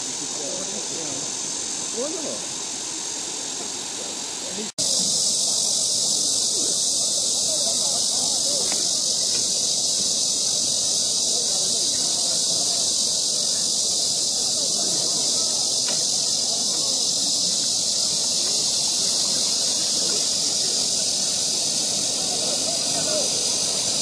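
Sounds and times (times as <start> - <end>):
faint murmur: 0.0 - 24.0
insect chorus buzzing: 0.0 - 24.0.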